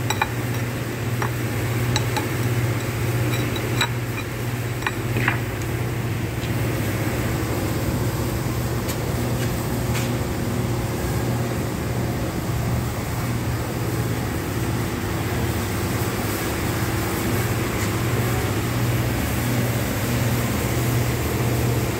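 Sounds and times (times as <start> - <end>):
workshop machinery hum: 0.0 - 21.9.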